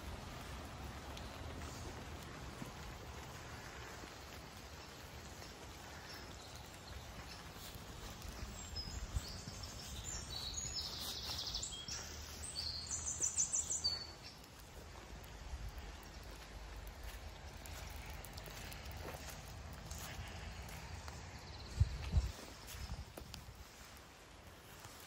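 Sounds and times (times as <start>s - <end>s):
low background noise: 0.0s - 25.0s
songbird chirping: 0.4s - 25.0s.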